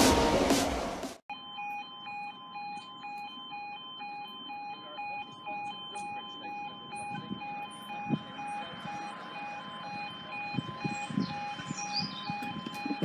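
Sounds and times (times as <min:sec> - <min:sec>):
two-tone electronic warning alarm: 0:01.3 - 0:13.0.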